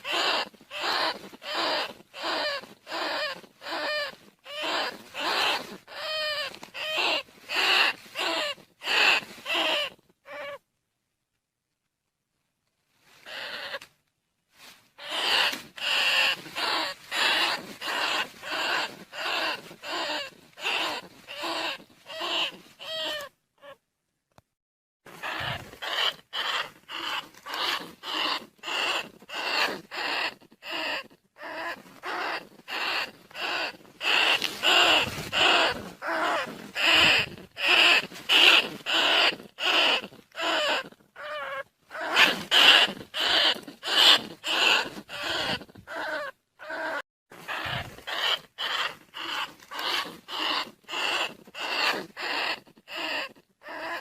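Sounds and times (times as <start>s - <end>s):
rats squeaking: 0.0s - 10.6s, 13.2s - 13.9s, 15.0s - 23.8s, 25.1s - 54.0s.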